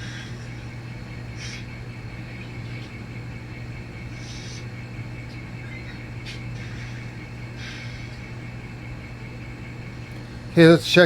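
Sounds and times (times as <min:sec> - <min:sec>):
model locomotive humming: 0:00.0 - 0:11.0.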